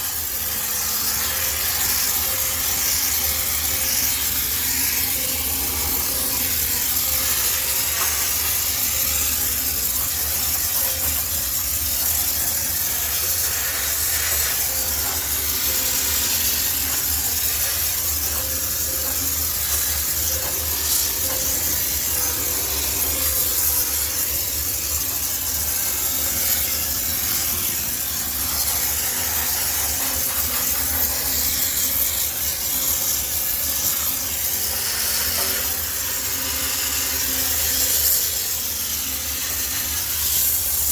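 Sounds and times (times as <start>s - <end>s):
steam hissing: 0.0s - 40.9s.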